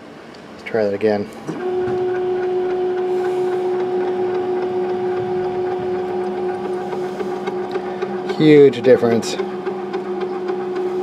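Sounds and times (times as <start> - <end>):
stepper motors whining: 1.3 - 11.0.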